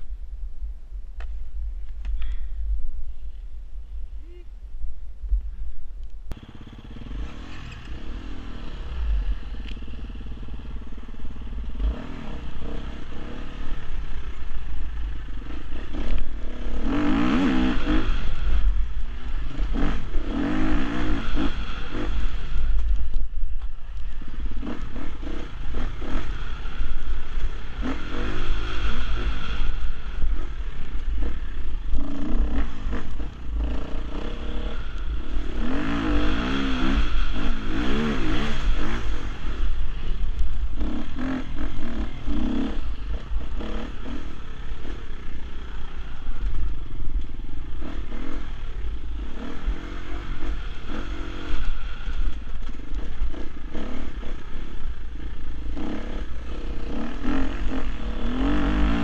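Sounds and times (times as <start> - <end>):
motorcycle engine revving: 6.3 - 59.0.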